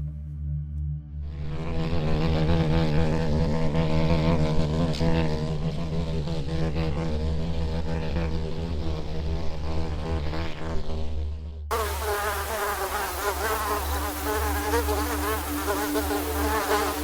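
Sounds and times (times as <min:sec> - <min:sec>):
flying insect buzzing: 0:01.5 - 0:17.0.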